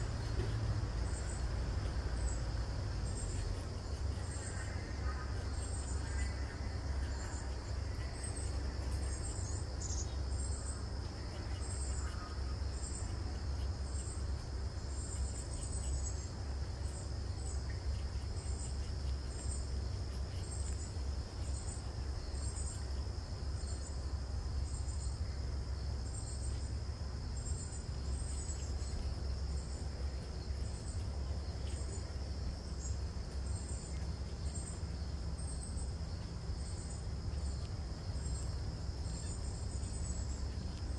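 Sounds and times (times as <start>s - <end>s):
insect chirps: 0.0s - 40.9s
insects droning: 0.0s - 40.9s.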